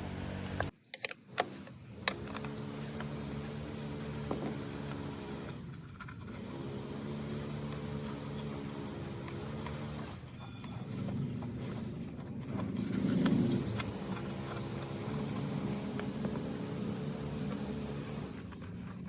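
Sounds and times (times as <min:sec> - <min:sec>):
low mechanical drone: 0:00.0 - 0:00.7, 0:02.0 - 0:19.0.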